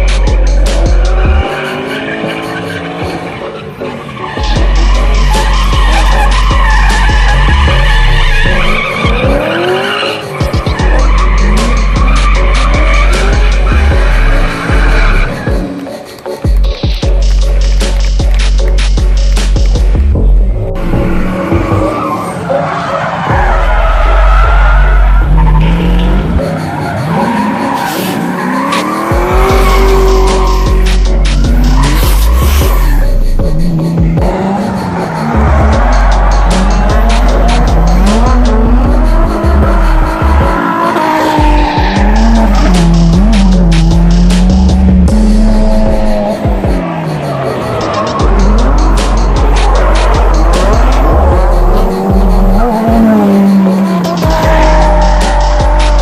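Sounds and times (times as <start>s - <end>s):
car engines revving: 0.0s - 56.0s
tyres squealing: 0.3s - 15.7s, 21.0s - 56.0s.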